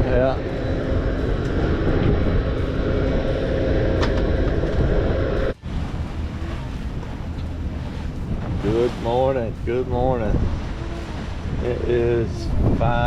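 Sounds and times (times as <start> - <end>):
boat motor humming: 0.0 - 13.0
wind on microphone: 0.0 - 13.0.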